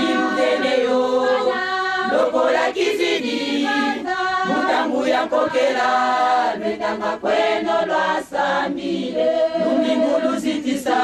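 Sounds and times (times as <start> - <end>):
women's choir singing a cappella: 0.0 - 11.0.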